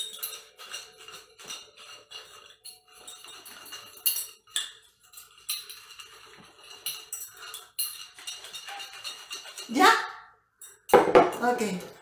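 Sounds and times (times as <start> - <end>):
paper rattling in shaken glass jar: 0.0 - 10.1.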